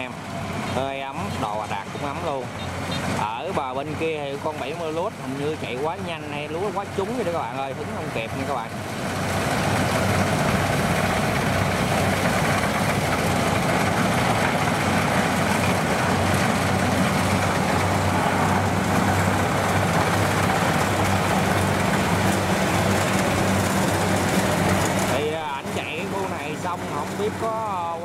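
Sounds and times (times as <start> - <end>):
combine harvester engine drone: 0.0 - 28.0
harvester header and thresher rushing: 0.0 - 28.0.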